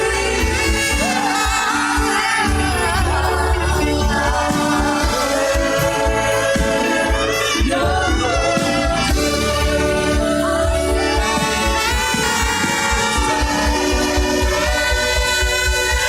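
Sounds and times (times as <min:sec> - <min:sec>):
gospel singing voices: 0:00.0 - 0:16.0
sustained instrumental chords: 0:00.0 - 0:16.0.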